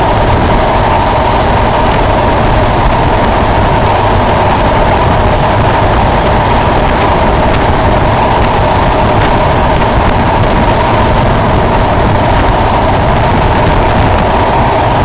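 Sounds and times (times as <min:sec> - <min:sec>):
rushing air: 0:00.0 - 0:15.0
train wheels on rail: 0:00.0 - 0:15.0.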